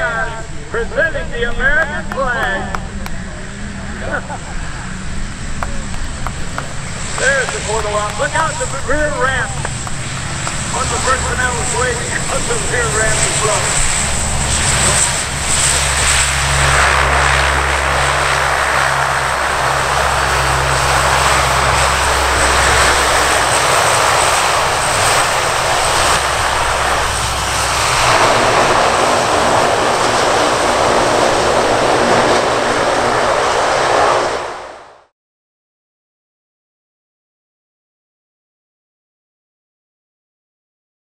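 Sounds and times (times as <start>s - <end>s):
deep propeller drone: 0.0s - 35.1s
high turbine whine: 0.0s - 35.1s.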